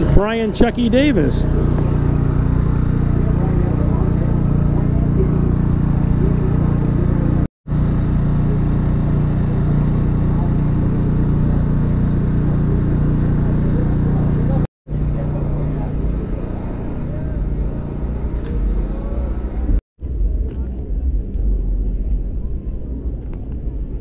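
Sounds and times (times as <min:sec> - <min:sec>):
faint crowd voices: 0:00.0 - 0:24.0
low engine drone: 0:00.0 - 0:24.0.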